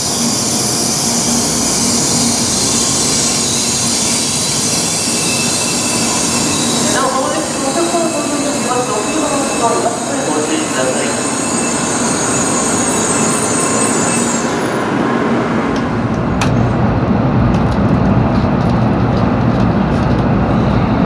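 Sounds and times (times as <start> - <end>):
train rumble inside cabin: 0.0 - 10.9, 12.0 - 21.0.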